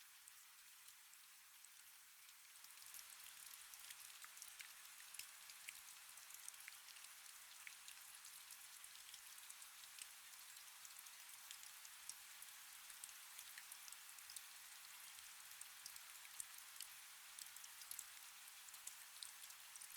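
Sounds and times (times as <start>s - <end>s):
faint steady rain: 0.0s - 19.9s.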